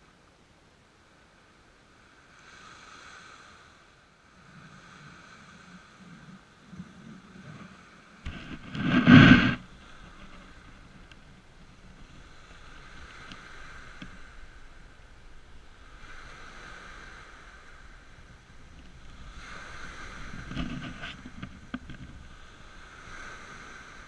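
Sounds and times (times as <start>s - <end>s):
small waves on pebble beach: 1.1s - 24.0s.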